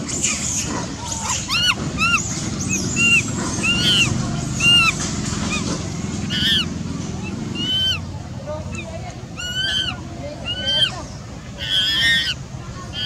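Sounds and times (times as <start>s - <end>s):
animal high squeaks: 1.0s - 8.1s, 8.7s - 13.0s.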